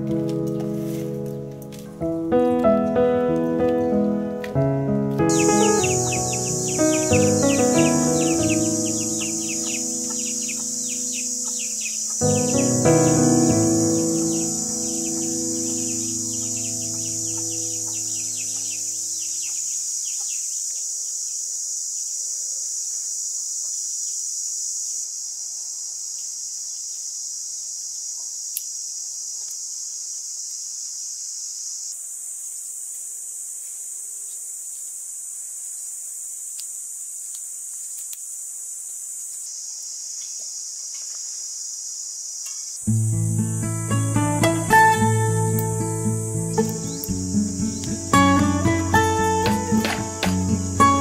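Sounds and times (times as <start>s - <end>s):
insects buzzing: 0.0s - 51.0s.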